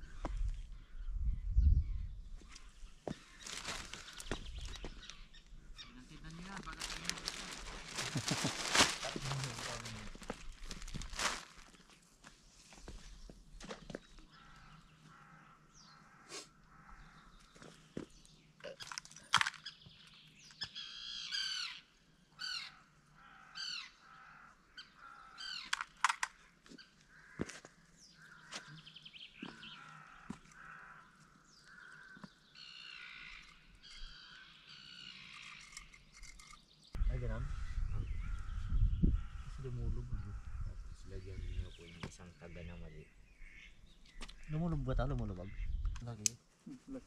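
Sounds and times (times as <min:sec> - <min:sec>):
birds harsh calls: 0:00.0 - 0:11.9, 0:12.9 - 0:46.9.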